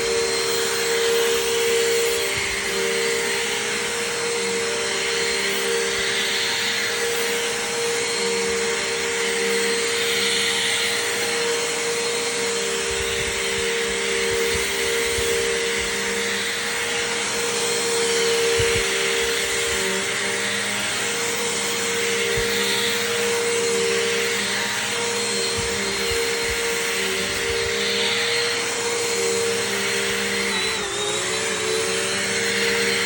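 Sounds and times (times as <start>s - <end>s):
upright vacuum cleaner running: 0.0s - 33.0s.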